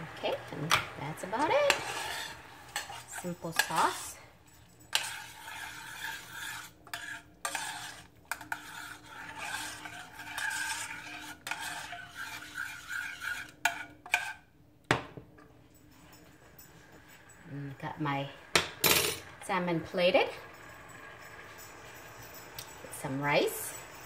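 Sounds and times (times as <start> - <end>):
glaze boiling: 0.0 - 24.0
spoon scraping a saucepan: 0.1 - 14.5, 16.0 - 24.0.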